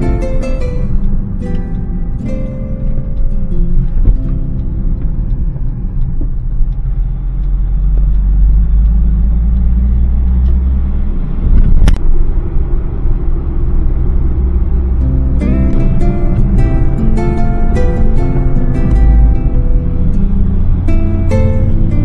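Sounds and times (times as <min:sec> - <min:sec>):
van engine and road rumble: 0:00.0 - 0:22.0.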